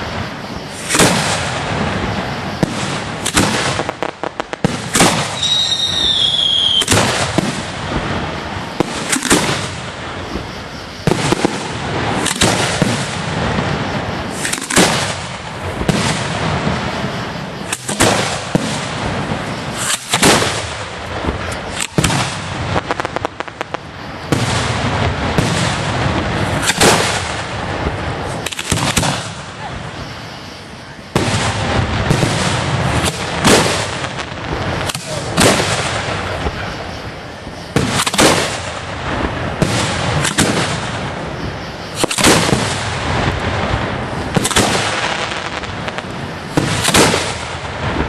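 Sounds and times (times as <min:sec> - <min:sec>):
fireworks bangs and crackle: 0:00.0 - 0:48.0
whistling firework: 0:00.0 - 0:48.0.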